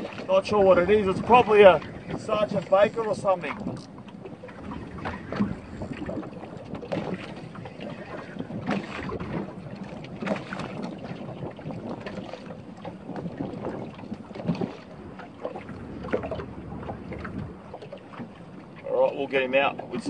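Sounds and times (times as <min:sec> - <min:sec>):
water slapping against boat hull: 0:00.0 - 0:20.0
wind on the microphone: 0:00.0 - 0:20.0.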